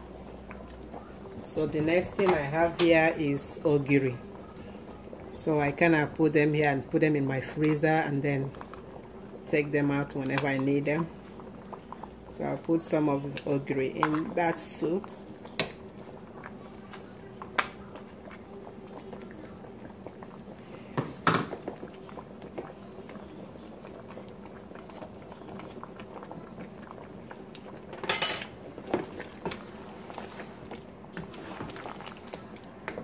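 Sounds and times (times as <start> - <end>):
soup boiling: 0.0 - 33.0.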